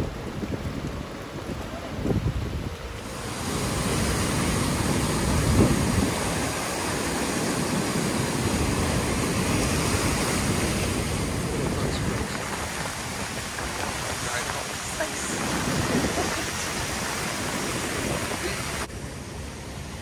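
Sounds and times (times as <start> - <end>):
wind buffeting microphone: 0.0 - 18.9
floodwater rushing: 0.0 - 20.0.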